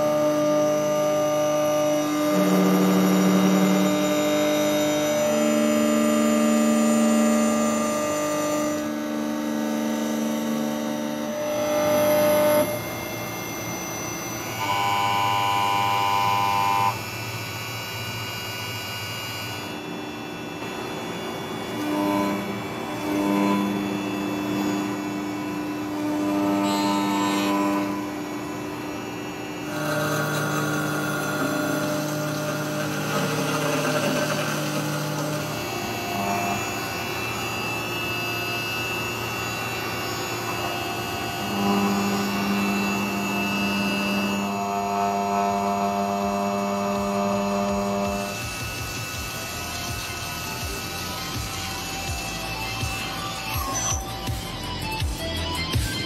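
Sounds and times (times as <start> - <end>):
cnc machine whine: 0.0 - 56.0.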